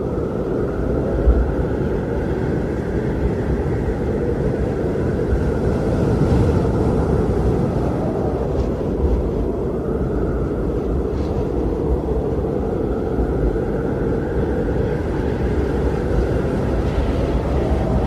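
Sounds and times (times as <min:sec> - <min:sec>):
strong wind blowing: 0:00.0 - 0:18.0.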